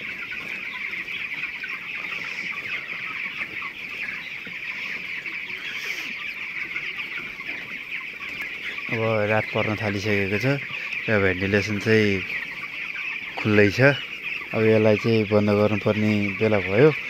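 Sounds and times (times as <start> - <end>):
chickens peeping and clucking: 0.0 - 17.0.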